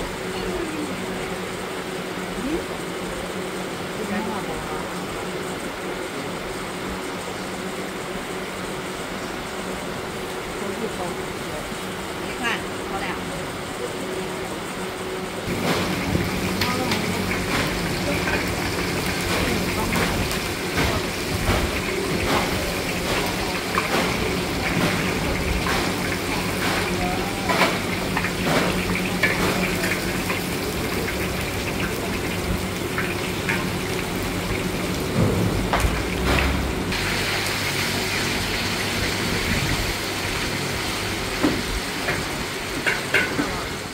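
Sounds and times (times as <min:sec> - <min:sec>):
oil sizzling in a wok: 0:00.0 - 0:43.9.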